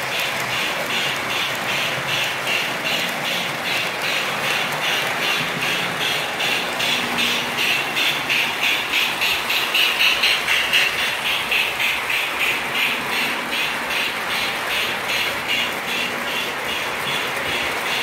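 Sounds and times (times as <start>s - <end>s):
toy train whirring and rattling: 0.0s - 18.0s
wheels clicking on rails: 0.0s - 18.0s.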